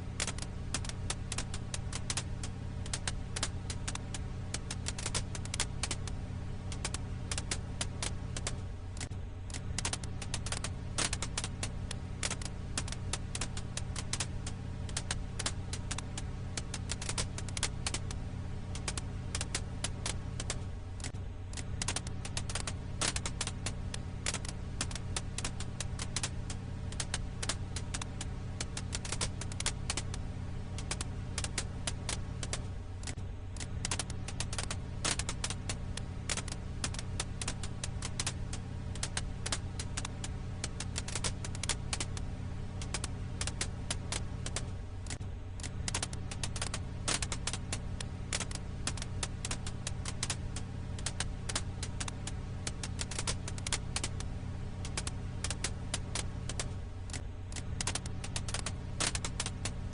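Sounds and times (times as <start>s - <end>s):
firewood crackling: 0.0s - 59.9s.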